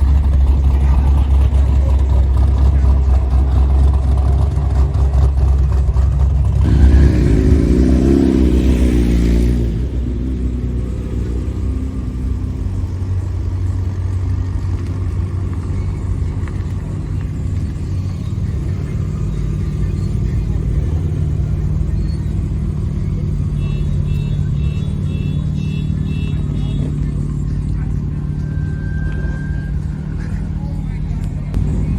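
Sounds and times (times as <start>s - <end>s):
car engine and exhaust rumbling: 0.0s - 31.9s.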